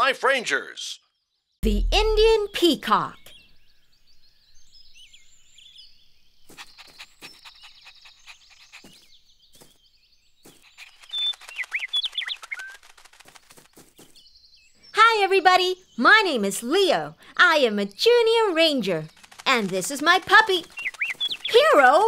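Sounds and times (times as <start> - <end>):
small birds chirping: 1.0 - 22.0.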